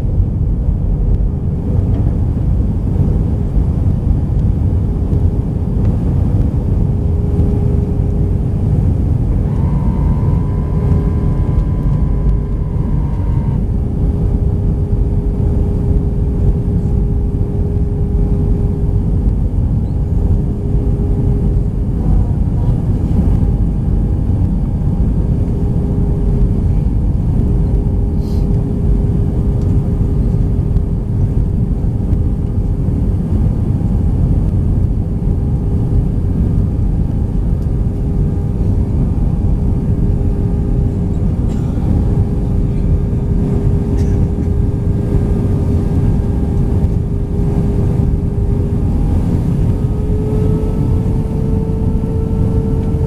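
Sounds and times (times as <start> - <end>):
airflow rumble in aircraft cabin: 0.0 - 53.0
high whine: 0.0 - 53.0
jet engine hum: 0.0 - 53.0.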